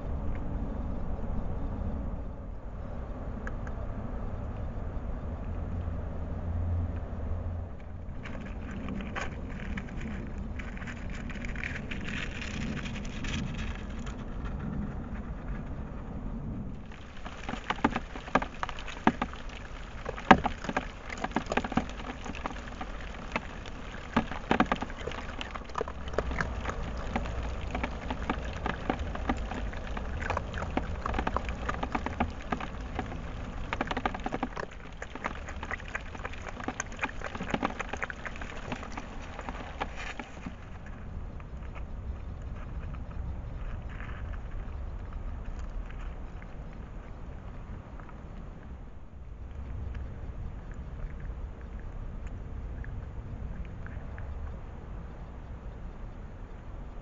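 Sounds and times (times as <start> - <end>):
low hum and hiss: 0.0 - 57.0
fox crunching food: 7.7 - 55.1.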